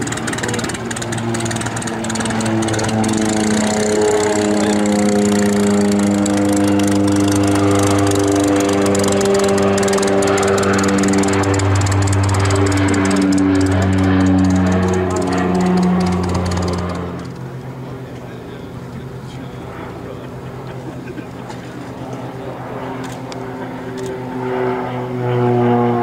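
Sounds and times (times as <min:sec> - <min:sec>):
turboprop aircraft droning: 0:00.0 - 0:26.0.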